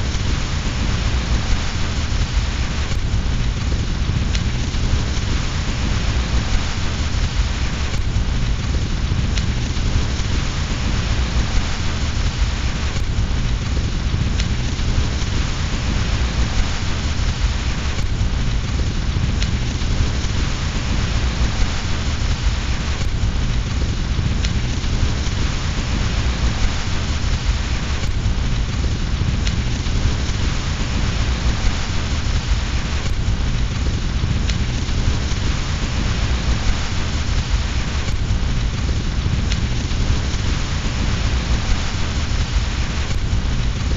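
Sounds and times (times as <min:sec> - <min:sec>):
heavy rain: 0:00.0 - 0:43.9
wood fire crackling pops: 0:00.0 - 0:43.9.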